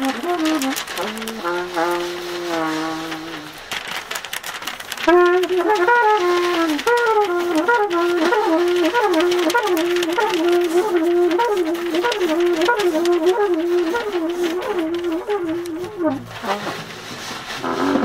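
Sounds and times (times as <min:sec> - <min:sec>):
cornet playing jazz: 0:00.0 - 0:04.2, 0:04.9 - 0:18.0.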